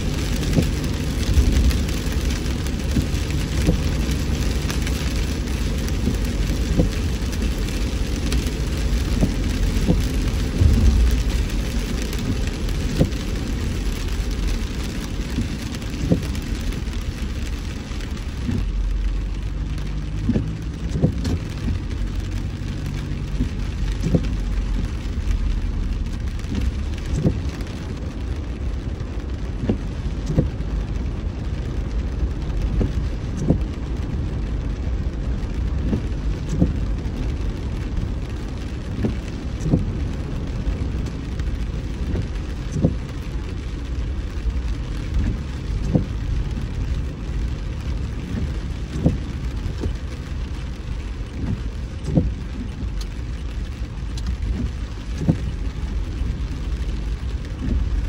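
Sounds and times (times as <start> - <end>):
car road rumble: 0.0 - 58.0
rain hissing on car: 0.0 - 58.0.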